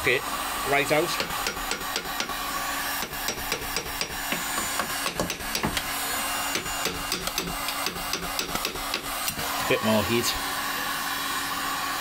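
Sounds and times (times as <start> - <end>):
heat gun blowing: 0.2 - 12.0.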